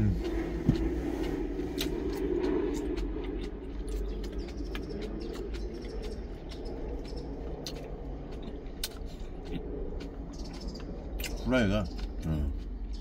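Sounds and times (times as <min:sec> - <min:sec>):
chewing with wet mouth clicks: 0:00.0 - 0:13.0
low hum: 0:00.0 - 0:13.0.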